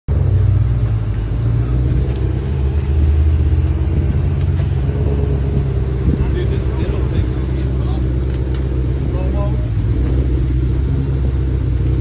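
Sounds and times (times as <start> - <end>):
car engine idling deep and low: 0.1 - 12.0.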